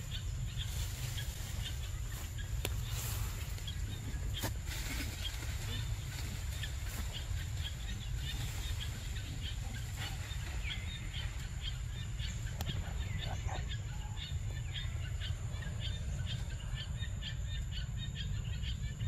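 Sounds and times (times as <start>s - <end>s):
birds chirping: 0.0s - 19.0s
low rumble: 0.0s - 19.0s.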